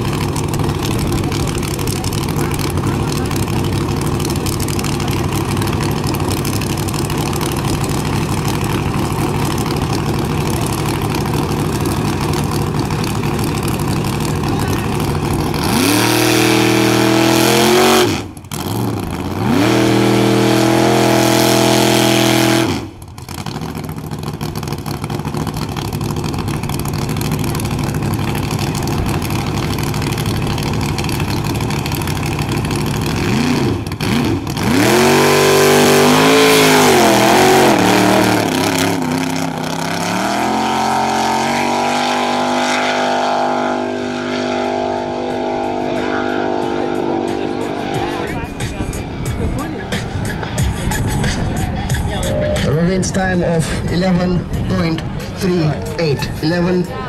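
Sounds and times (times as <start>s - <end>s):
misfiring car engine revving: 0.0s - 56.6s.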